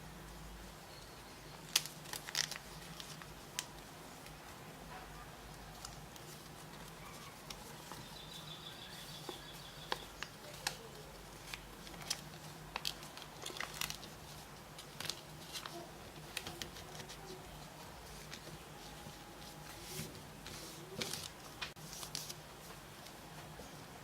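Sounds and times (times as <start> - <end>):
paper crinkling and creasing: 1.6 - 4.6, 5.4 - 23.8.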